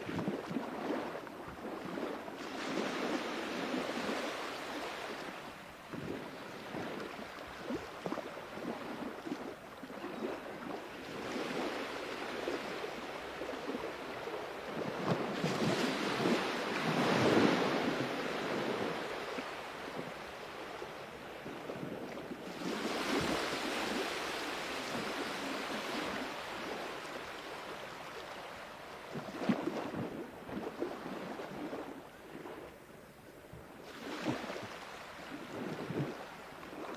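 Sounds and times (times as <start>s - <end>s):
sea waves washing onto shore: 0.0s - 32.8s, 33.8s - 36.9s.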